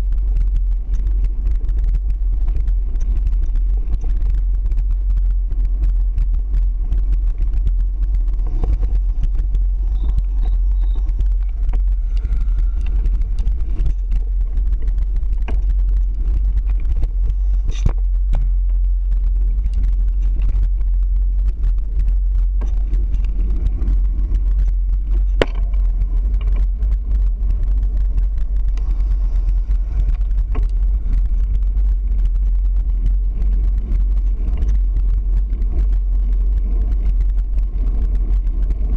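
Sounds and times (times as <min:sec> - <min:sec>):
bicycle clicks and rattles: 0:00.0 - 0:38.9
tyre noise on pavement: 0:00.0 - 0:38.9
wind rumble on microphone: 0:00.0 - 0:38.9.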